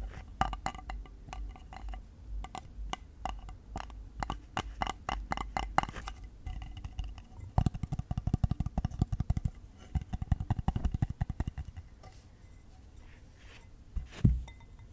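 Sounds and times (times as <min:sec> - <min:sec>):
fingertips tapping on hard objects: 0:00.0 - 0:12.1.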